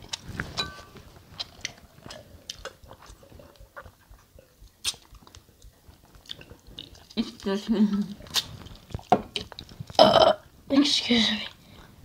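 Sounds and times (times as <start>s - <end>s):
chewing and eating: 0.0s - 10.6s.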